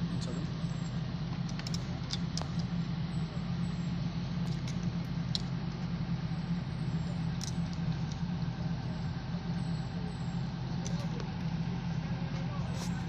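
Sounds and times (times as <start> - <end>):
large engine idling: 0.0 - 13.0.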